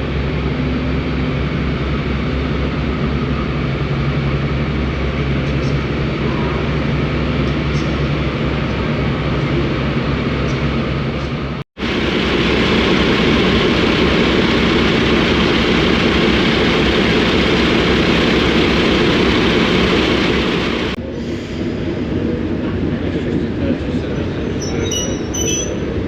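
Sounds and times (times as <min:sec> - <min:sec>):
train running close by: 0:00.0 - 0:26.0.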